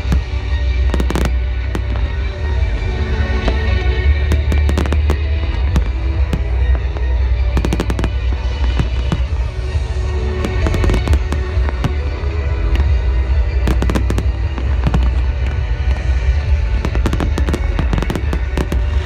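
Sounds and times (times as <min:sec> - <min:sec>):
fireworks bangs and crackles: 0:00.0 - 0:19.0
heavy low rumble: 0:00.0 - 0:19.0
music playing: 0:00.0 - 0:19.0.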